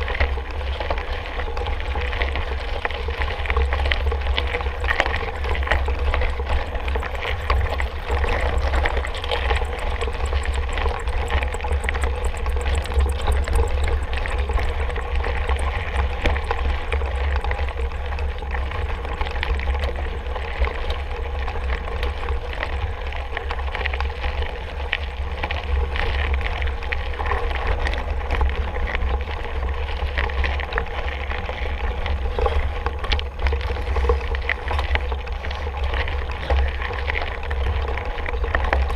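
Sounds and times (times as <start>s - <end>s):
bike rattles and clicks: 0.0s - 38.9s
bike tyre noise on trail: 0.0s - 38.9s
wind rumble on microphone: 0.0s - 38.9s.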